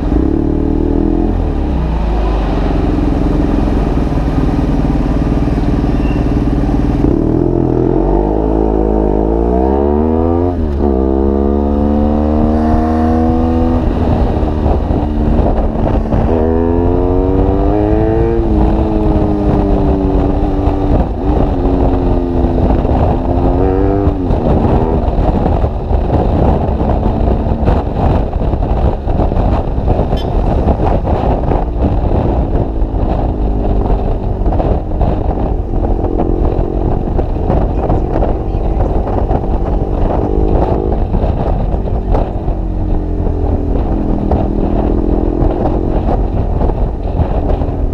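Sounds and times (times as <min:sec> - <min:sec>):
motorcycle engine revving and accelerating: 0:00.0 - 0:47.9
wind rushing over microphone: 0:00.0 - 0:47.9.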